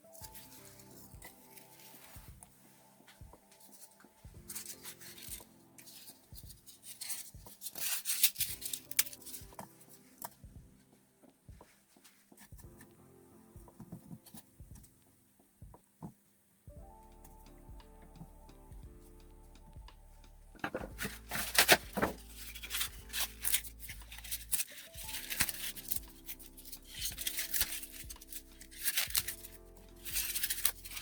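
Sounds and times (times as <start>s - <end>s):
rustling handling noise: 0.0s - 13.0s, 17.2s - 31.0s
soft background music: 0.0s - 31.0s.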